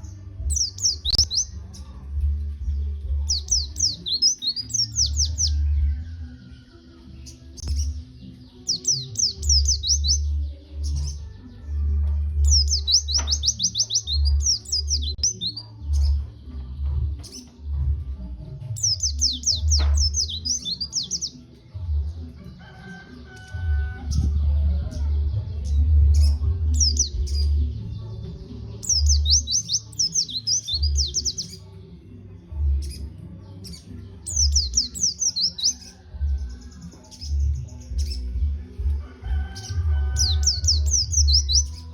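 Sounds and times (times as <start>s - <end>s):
bird high twittering song: 0.0s - 18.1s, 18.8s - 21.4s, 22.9s - 31.7s, 32.8s - 41.9s.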